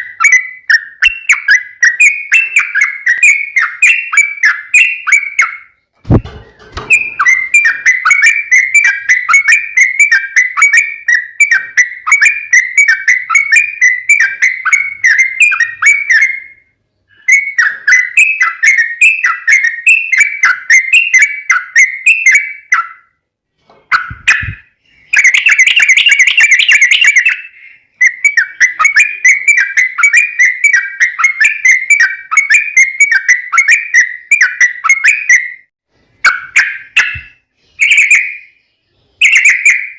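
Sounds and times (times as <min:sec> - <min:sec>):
bird singing whistled notes: 0:00.0 - 0:23.2, 0:23.9 - 0:39.9.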